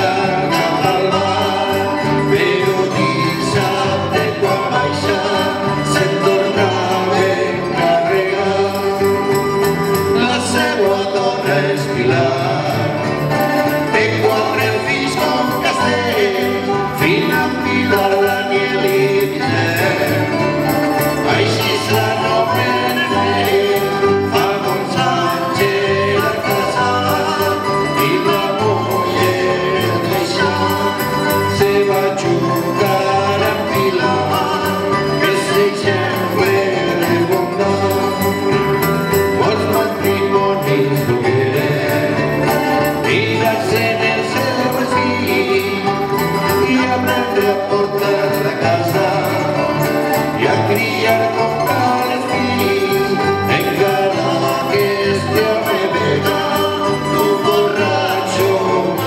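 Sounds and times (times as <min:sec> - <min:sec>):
bass guitar: 0:00.0 - 0:59.0
plucked string ensemble strumming: 0:00.0 - 0:59.0.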